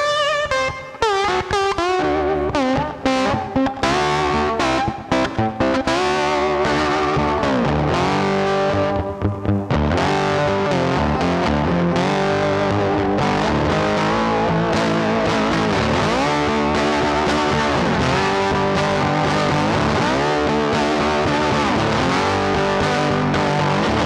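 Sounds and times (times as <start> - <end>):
distorted electric guitar music: 0.0 - 24.0.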